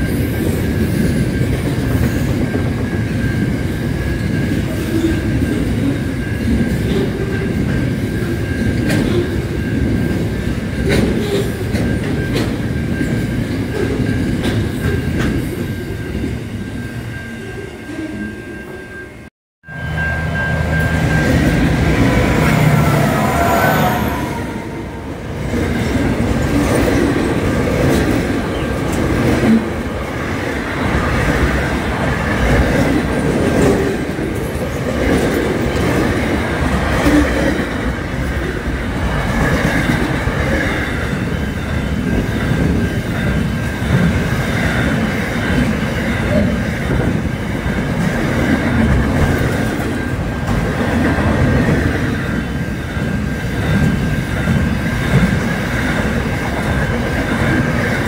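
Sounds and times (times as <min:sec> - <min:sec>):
train wheels rumbling on rail: 0:00.0 - 0:18.4, 0:19.0 - 0:58.0.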